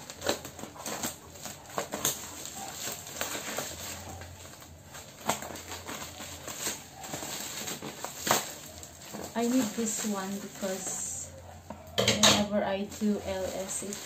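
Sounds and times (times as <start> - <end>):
plastic wrapping crinkling: 0.0 - 14.0
scissors cutting bubble wrap: 0.0 - 14.0.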